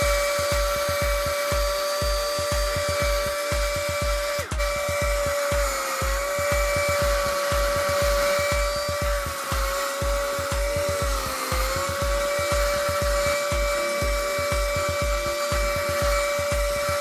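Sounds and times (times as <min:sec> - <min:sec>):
music with steady beat: 0:00.0 - 0:17.0
rotary tool whining: 0:00.0 - 0:17.0.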